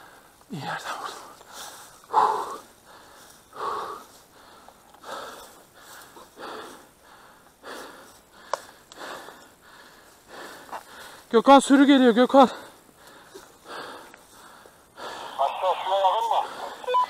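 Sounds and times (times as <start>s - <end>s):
heavy rapid breathing: 1.0s - 11.3s, 12.4s - 16.9s.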